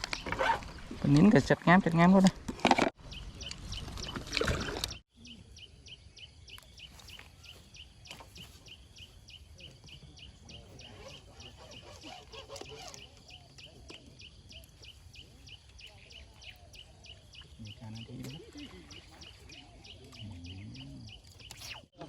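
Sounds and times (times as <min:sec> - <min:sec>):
bird chirping: 0:03.0 - 0:22.0.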